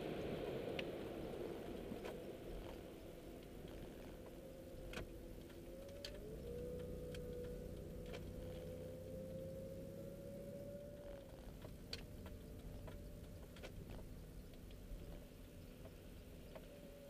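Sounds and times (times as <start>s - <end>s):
car engine hum from cabin: 0.0s - 17.0s
drivetrain whine: 0.0s - 17.0s
light ticks and rattles: 1.7s - 10.0s, 10.7s - 16.9s.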